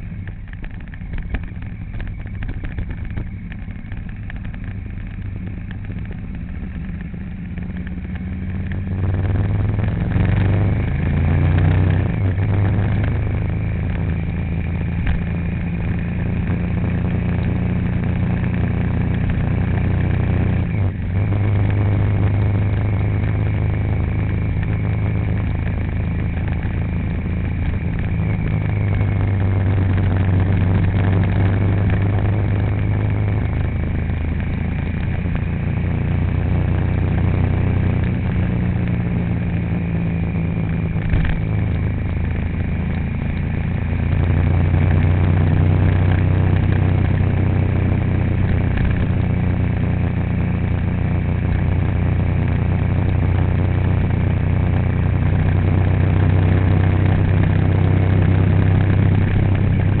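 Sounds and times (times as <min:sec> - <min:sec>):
vehicle engine humming: 0:00.0 - 1:00.0.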